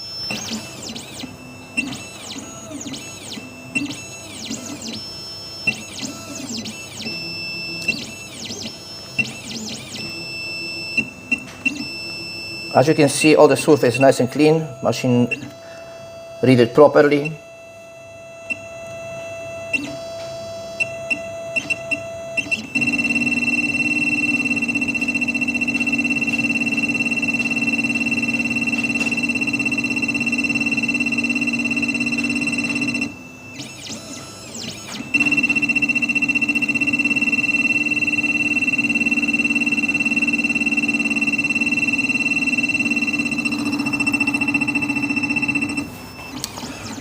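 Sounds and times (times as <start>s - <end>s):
motors high whine: 0.0s - 16.3s, 19.7s - 47.0s.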